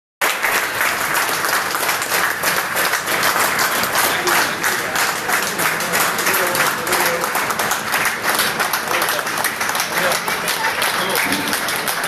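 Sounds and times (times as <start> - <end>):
group of people applauding: 0.2 - 12.0.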